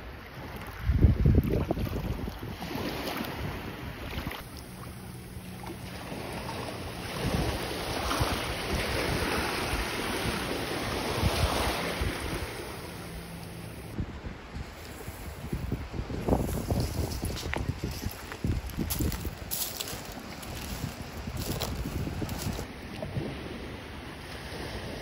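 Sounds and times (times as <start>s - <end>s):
surf washing in: 0.0s - 25.0s
wind buffeting microphone: 0.6s - 25.0s.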